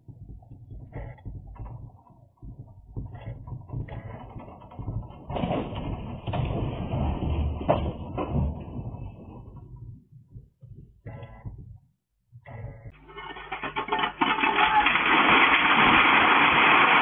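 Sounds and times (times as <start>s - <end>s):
room shaking in earthquake: 0.0s - 10.8s, 12.9s - 17.0s.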